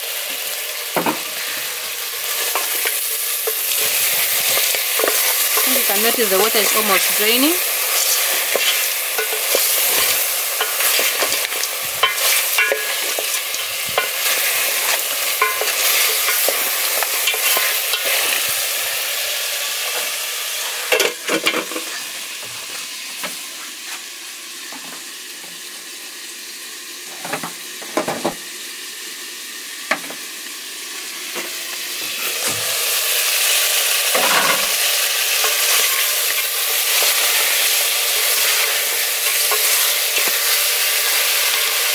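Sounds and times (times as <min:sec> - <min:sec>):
meat sizzling in oil: 0:00.0 - 0:41.9.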